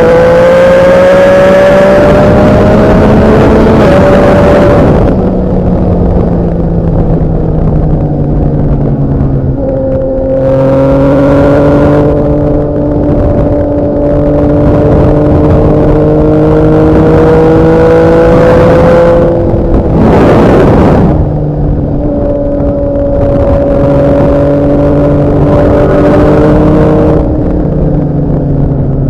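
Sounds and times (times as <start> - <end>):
rush of noise: 0.0 - 29.0.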